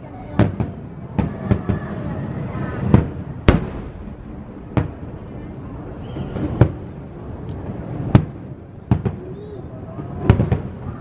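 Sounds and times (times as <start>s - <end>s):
fireworks bursting with sharp bangs: 0.2s - 11.0s.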